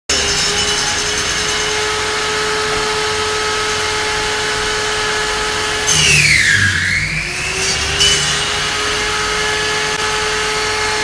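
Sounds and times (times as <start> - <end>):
circular saw whining: 0.1 - 11.0
saw blade cutting wood: 0.1 - 11.0.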